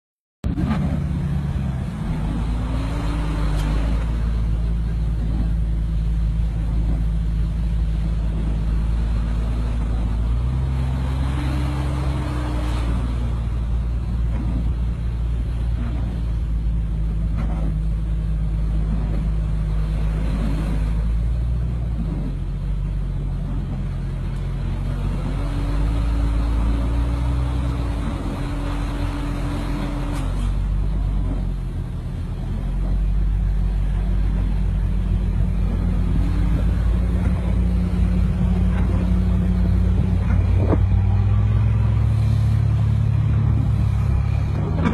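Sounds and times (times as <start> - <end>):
vehicle engine revving: 0.4 - 44.9.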